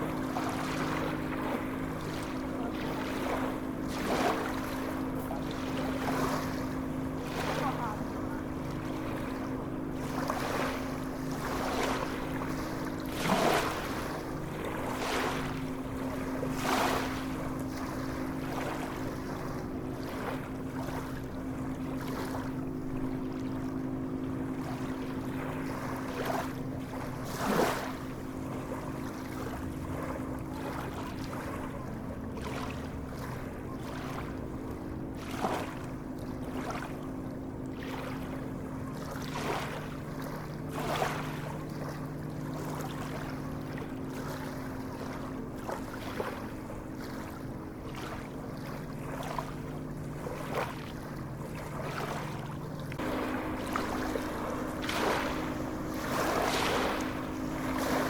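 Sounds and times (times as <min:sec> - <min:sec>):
sea waves washing: 0:00.0 - 0:31.6, 0:39.0 - 0:58.0
steady low hum: 0:00.0 - 0:58.0.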